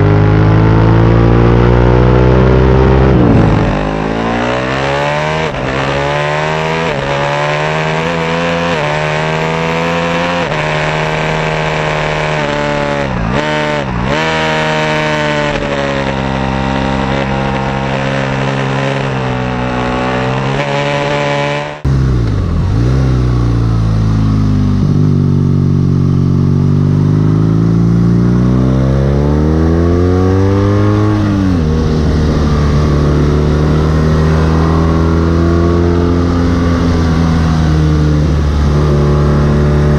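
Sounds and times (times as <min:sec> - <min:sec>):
deeper motorcycle engine note: 0:00.0 - 0:39.9
motorcycle revving through gears: 0:00.0 - 0:39.9.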